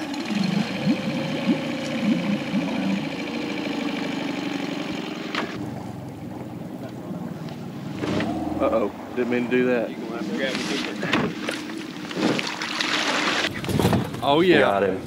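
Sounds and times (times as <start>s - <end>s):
outboard motor running: 0.0s - 13.6s.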